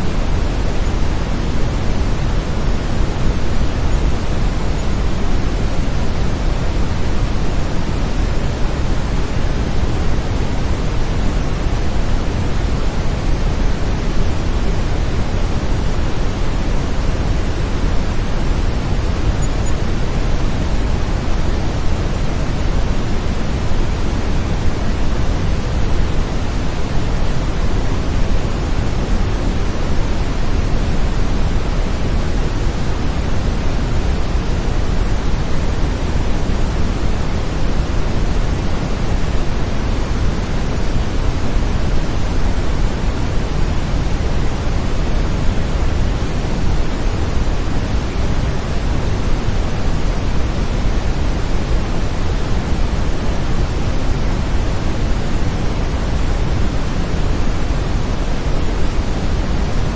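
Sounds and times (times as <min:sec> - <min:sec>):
brown noise hiss: 0:00.0 - 0:59.9.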